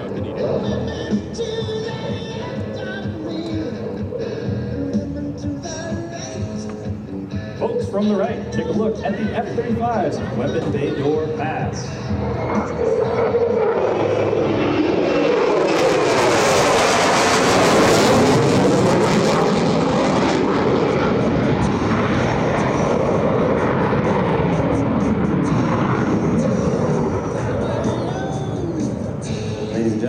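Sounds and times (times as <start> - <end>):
jet fighter passing low: 0.0 - 30.0.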